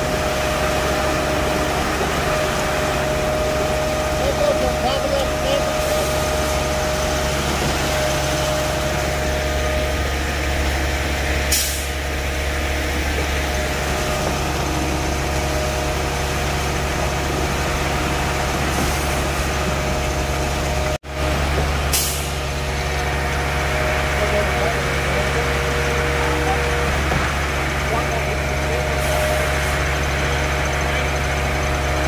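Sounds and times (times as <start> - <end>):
heavy diesel engines running: 0.0 - 32.0.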